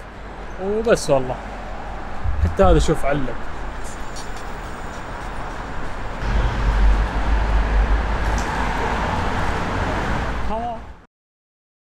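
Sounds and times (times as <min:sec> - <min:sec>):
low traffic rumble: 0:00.0 - 0:11.1.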